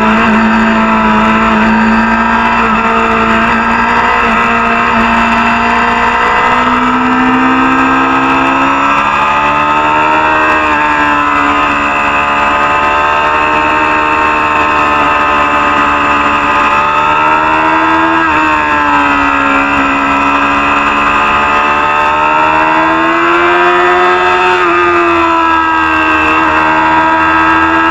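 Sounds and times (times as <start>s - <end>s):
motorcycle engine running under load: 0.0s - 27.9s.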